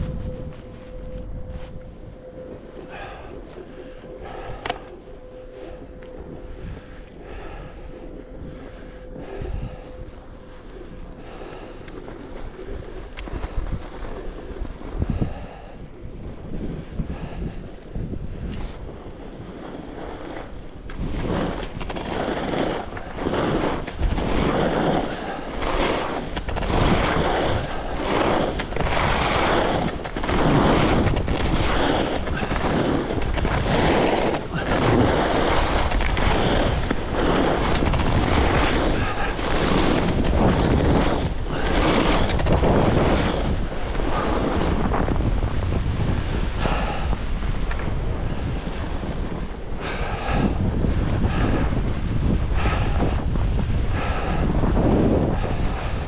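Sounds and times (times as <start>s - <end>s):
skis scraping on snow: 0.0s - 56.0s
wind on microphone: 0.0s - 56.0s.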